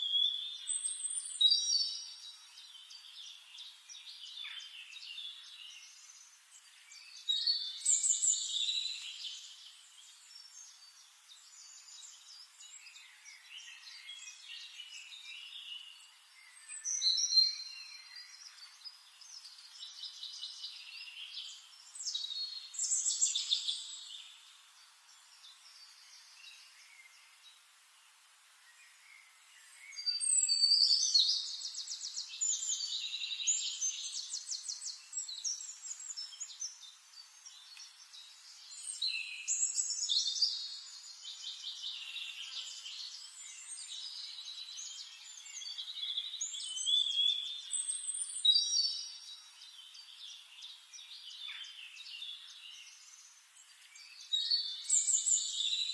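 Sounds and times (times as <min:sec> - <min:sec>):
songbirds chirping and trilling: 0:00.0 - 0:55.9.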